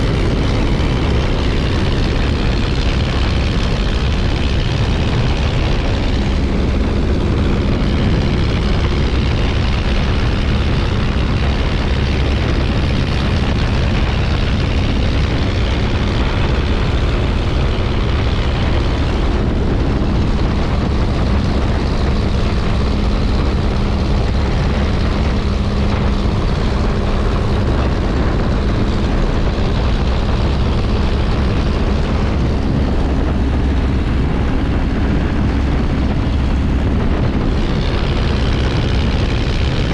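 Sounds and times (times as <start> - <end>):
aircraft engine and propeller running: 0.0 - 39.9.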